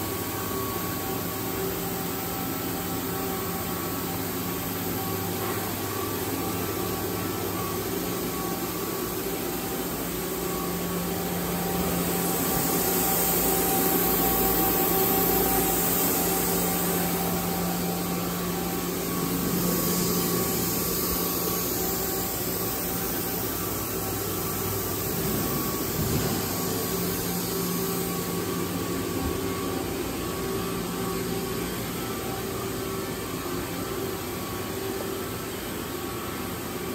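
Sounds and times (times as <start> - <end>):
factory machinery humming: 0.0 - 36.9.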